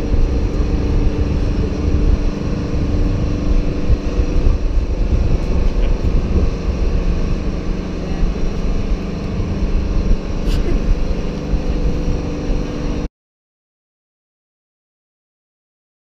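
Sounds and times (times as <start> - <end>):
low rumble: 0.0 - 13.1
machinery humming: 0.0 - 13.1.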